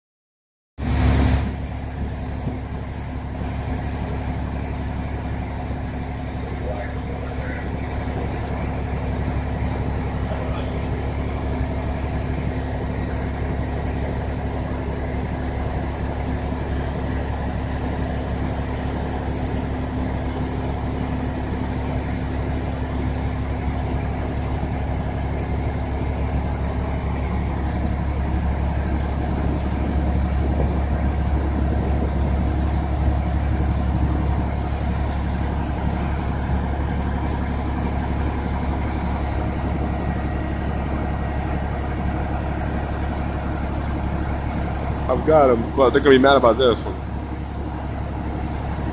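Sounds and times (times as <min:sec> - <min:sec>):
diesel engine humming: 0:00.8 - 0:48.9.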